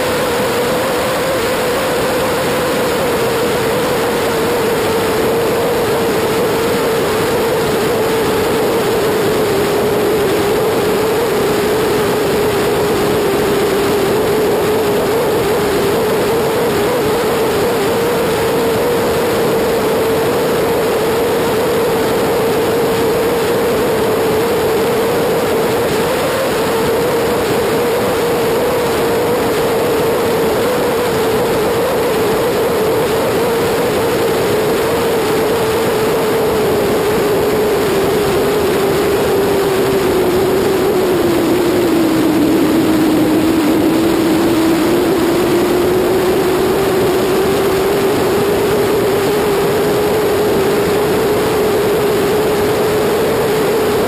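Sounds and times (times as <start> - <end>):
motorcycle engine drone: 0.0 - 54.0
wind and road rush: 0.0 - 54.0.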